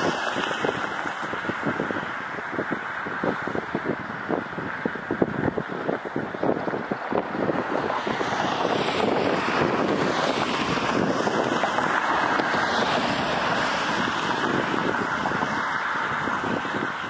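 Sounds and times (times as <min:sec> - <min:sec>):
loud jet engine noise: 0:00.0 - 0:17.0
wind buffeting microphone: 0:00.0 - 0:17.0.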